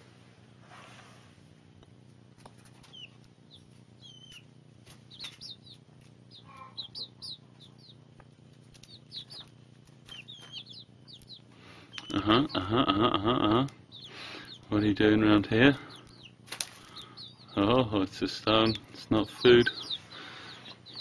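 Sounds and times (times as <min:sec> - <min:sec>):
young chickens peeping: 0:02.4 - 0:21.0.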